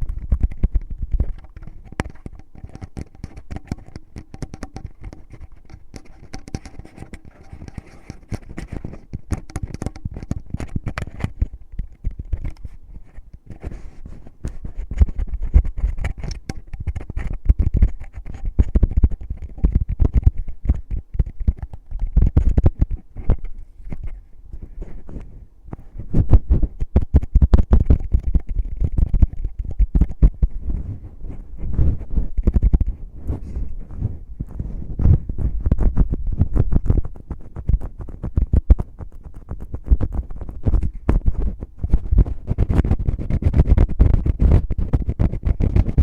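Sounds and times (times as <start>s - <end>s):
fingers rubbing microphone: 0.0s - 46.0s.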